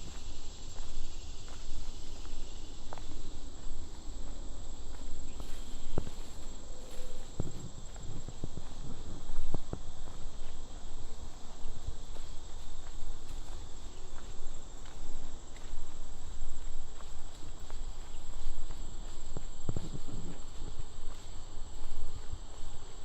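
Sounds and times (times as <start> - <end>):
footsteps on trail: 0.0 - 23.0
insects buzzing: 0.0 - 23.0.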